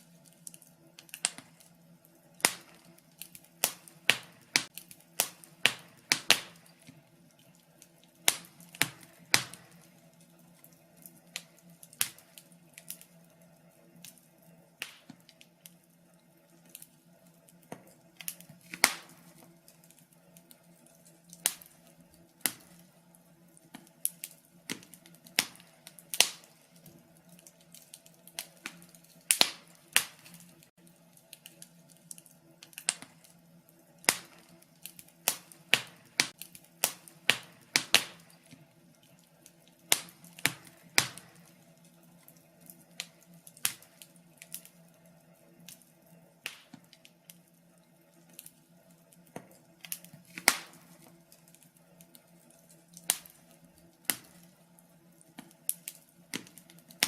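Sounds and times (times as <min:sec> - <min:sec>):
faint steady hum: 0:00.0 - 0:57.0
wood fire crackling: 0:00.0 - 0:57.0.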